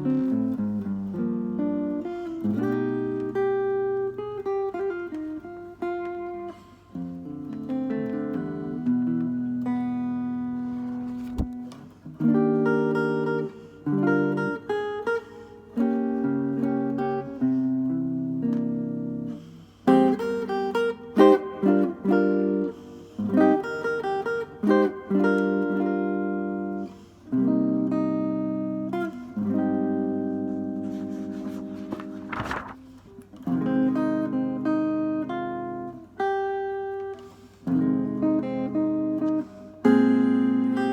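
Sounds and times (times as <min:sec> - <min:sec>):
acoustic guitar playing: 0:00.0 - 0:40.9.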